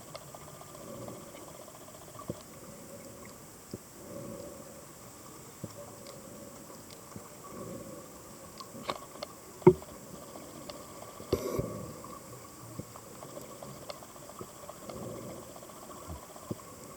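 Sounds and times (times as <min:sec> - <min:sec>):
faint underwater hiss: 0:00.0 - 0:16.9
small clicks and crackles: 0:00.0 - 0:16.9.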